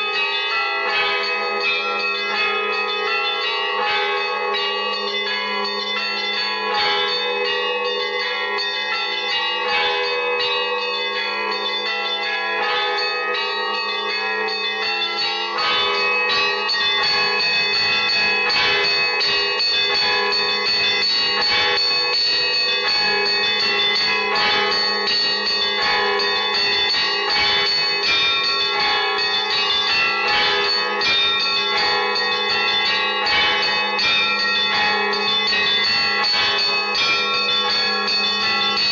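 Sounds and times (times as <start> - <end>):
church bells pealing: 0.0 - 38.9
low hum of large bell: 0.0 - 38.9.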